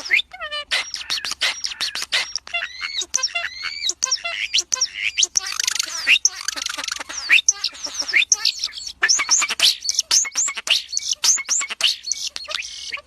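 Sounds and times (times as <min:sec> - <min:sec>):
birds chirping: 0:00.0 - 0:13.0
harsh buzzy bird call: 0:00.0 - 0:13.0.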